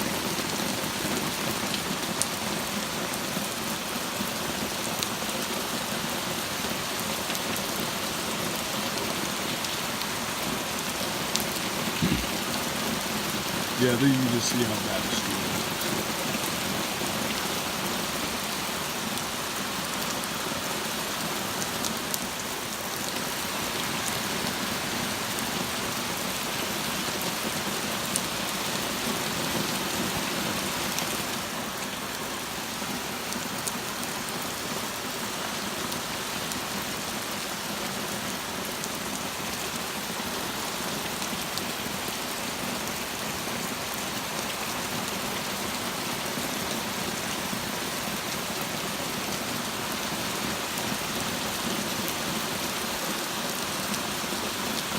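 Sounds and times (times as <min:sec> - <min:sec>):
torrential rain pouring: 0:00.0 - 0:54.9.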